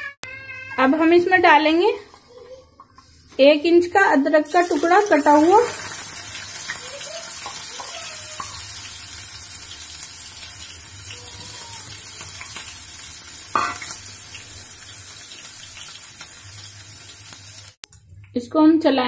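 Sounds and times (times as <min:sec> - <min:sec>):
ginger frying in hot oil: 0:00.4 - 0:17.8.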